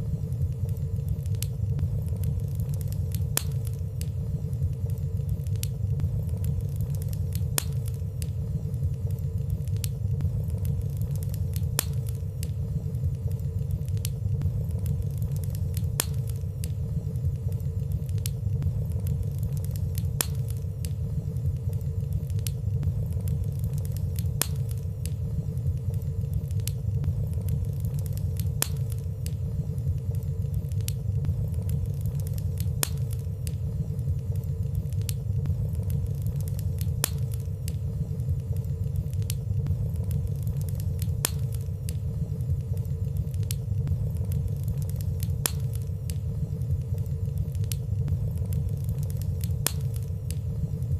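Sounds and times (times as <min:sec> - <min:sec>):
faint steady hum: 0:00.0 - 0:50.9
fire crackling in a fireplace: 0:00.0 - 0:50.9.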